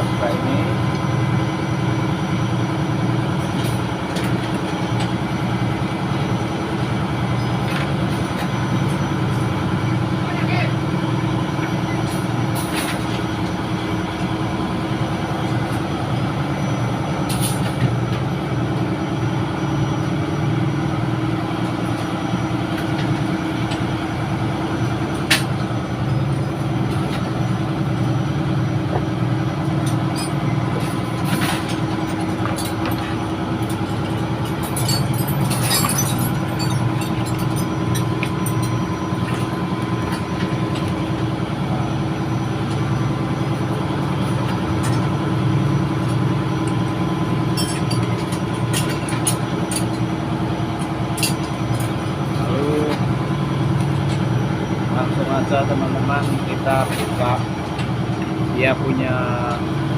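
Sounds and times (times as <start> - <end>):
engine-room machinery droning: 0.0 - 59.9.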